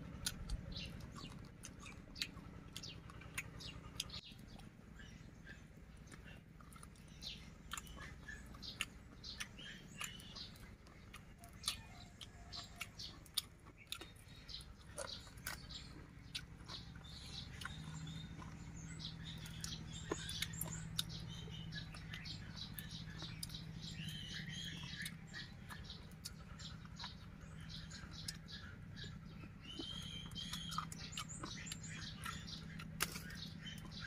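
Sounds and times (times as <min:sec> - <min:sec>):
low steady hum: 0:00.0 - 0:34.0
person chewing and lip-smacking: 0:00.0 - 0:34.0.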